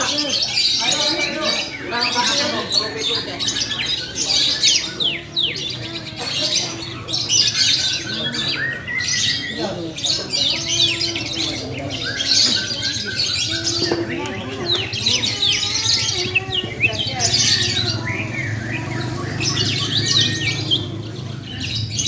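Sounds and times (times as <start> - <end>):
lovebirds chirping and squawking: 0.0 - 22.0.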